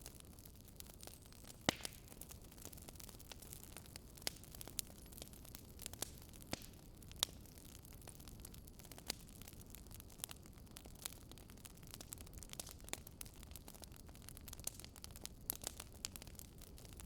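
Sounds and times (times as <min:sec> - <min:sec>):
firewood crackling and popping: 0:00.0 - 0:17.0
low fire hiss: 0:00.0 - 0:17.0.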